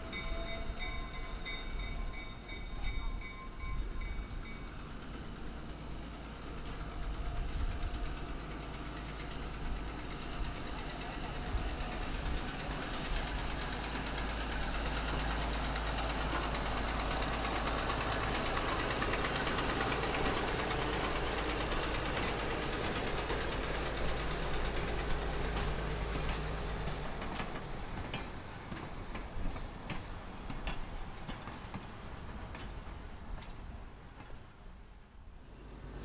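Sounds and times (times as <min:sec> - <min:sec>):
diesel locomotive engine running: 0:03.2 - 0:34.3, 0:35.4 - 0:36.0.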